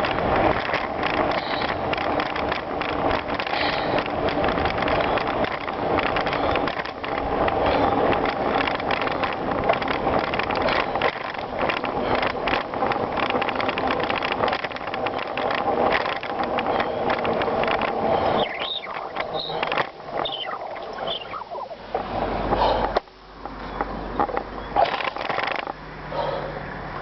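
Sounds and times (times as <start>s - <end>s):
bicycle tyres crunching on gravel: 0.0s - 22.8s
wind buffeting microphone: 0.0s - 22.9s
bike rattling: 0.0s - 27.0s.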